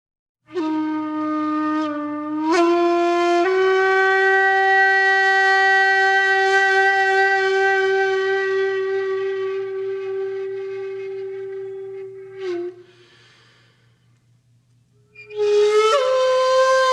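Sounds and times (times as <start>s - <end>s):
conch shell blown: 0.5s - 14.1s, 15.0s - 16.9s.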